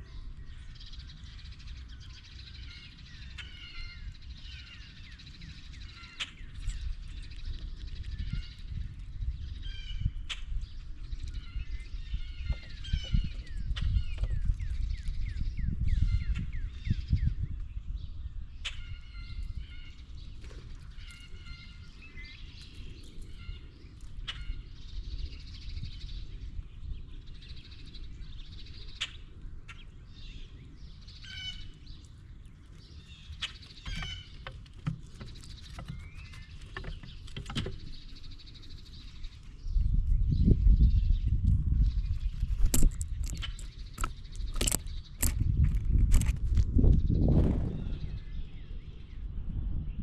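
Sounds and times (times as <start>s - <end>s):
birds calling: 0.0s - 17.4s, 18.5s - 39.9s, 41.8s - 46.3s
low background rumble: 0.0s - 50.0s.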